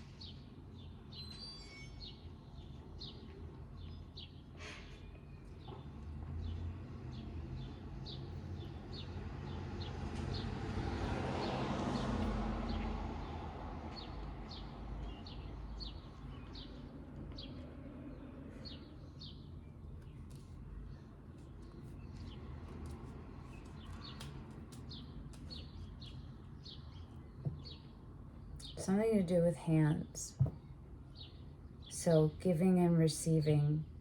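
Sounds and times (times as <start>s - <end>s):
small birds chirping: 0.0s - 11.1s, 12.0s - 33.9s.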